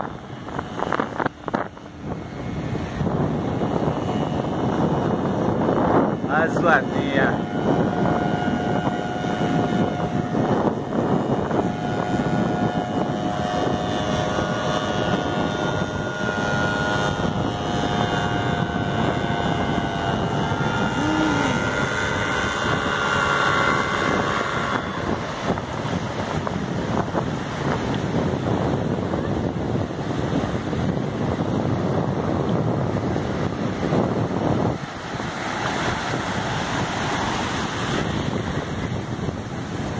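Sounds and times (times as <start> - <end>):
small propeller engine running: 0.0 - 39.9
wind on microphone: 0.0 - 39.9.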